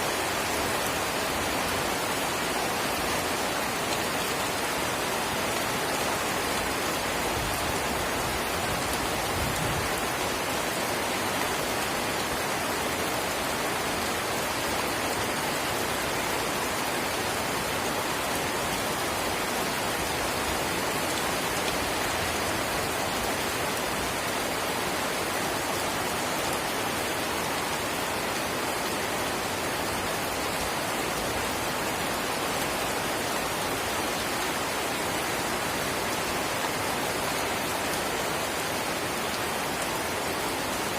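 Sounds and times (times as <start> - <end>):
light drizzle rain: 0.0 - 40.9.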